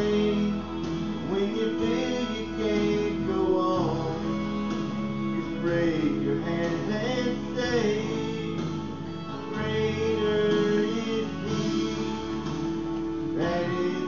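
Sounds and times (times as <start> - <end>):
man singing into microphone: 0.0 - 12.6, 13.2 - 14.0
guitar accompaniment: 0.0 - 14.0.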